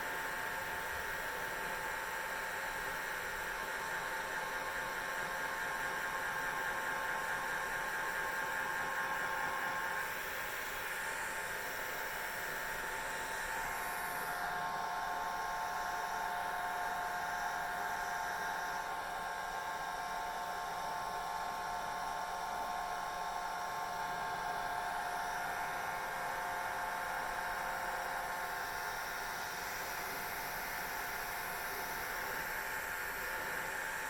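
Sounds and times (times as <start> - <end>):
hair dryer running: 0.0 - 34.0.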